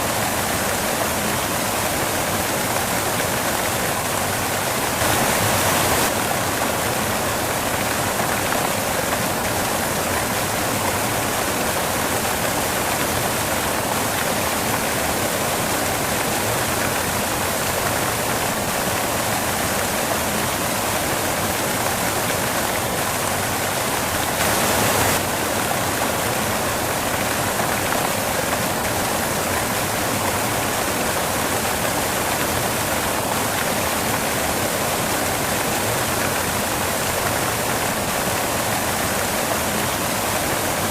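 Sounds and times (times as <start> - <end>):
white noise hiss: 0.0 - 19.3, 20.0 - 40.9.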